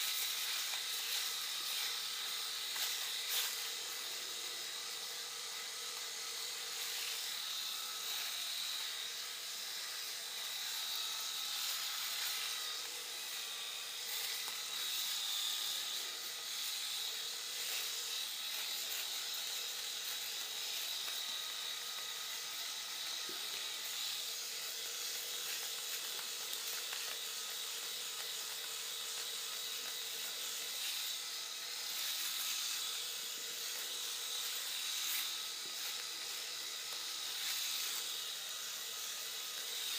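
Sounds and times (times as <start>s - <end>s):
electric razor humming: 0.0s - 39.9s.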